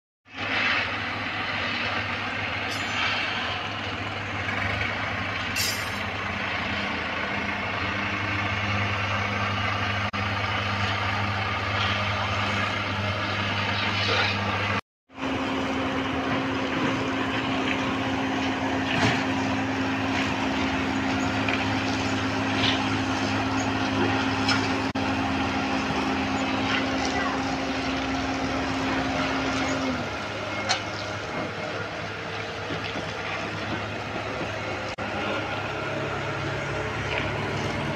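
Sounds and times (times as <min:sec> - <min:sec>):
diesel machinery droning: 0:00.3 - 0:37.9.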